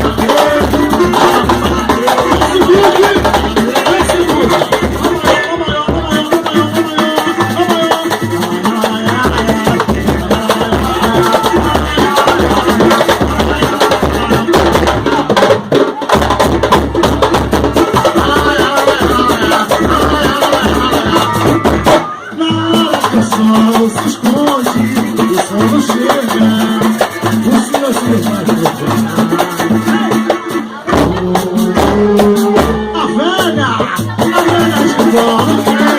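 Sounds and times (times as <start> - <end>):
clicking hand percussion: 0.0 - 35.9
low drum beats: 0.0 - 35.9.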